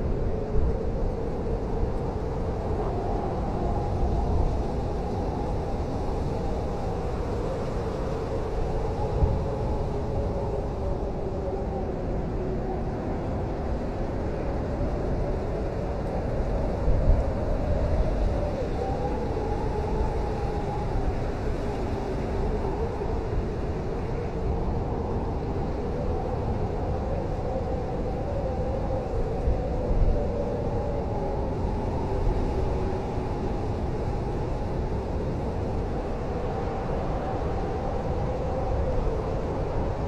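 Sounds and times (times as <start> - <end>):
blizzard wind blowing: 0.0 - 40.0.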